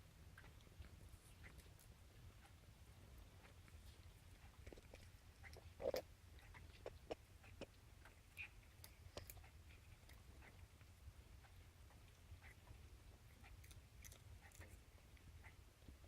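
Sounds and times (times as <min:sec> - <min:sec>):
cat chewing corn: 0:00.4 - 0:16.0.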